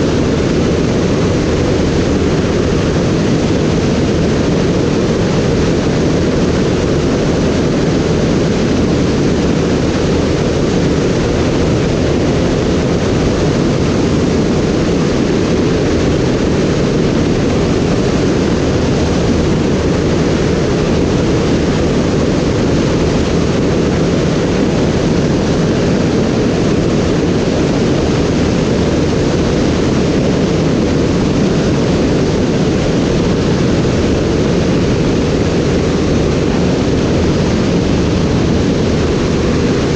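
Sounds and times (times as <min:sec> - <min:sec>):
aircraft engine in flight: 0:00.0 - 0:39.9.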